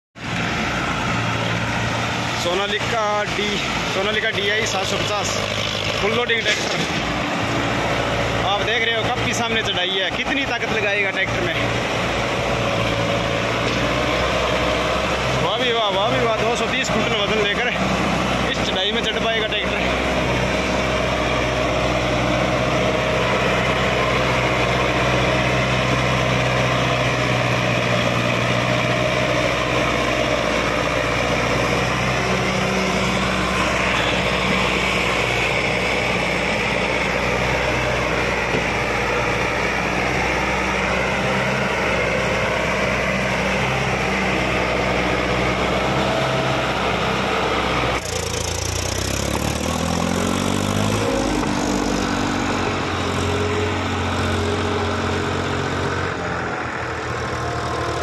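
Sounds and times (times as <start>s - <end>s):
tractor diesel engine under load: 0.2s - 58.0s.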